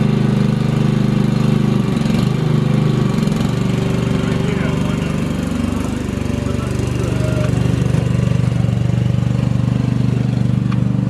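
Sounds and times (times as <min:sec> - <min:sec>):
motor droning: 0:01.5 - 0:11.0.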